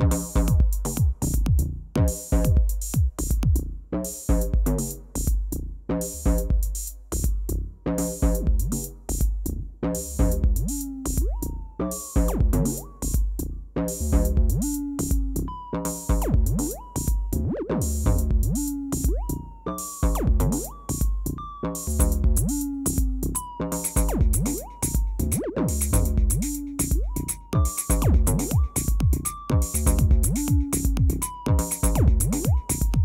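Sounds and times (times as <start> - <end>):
kick drum and hi-hats: 0.0 - 33.0.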